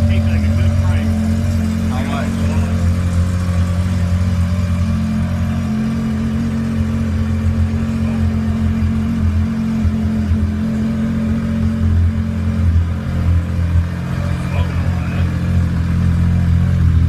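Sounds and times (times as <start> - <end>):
snowmobile engine idling: 0.0 - 17.0.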